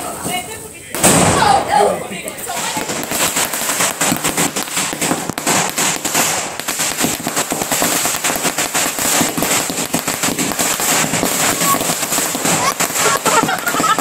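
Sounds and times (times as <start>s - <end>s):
firecrackers going off: 0.0s - 14.0s.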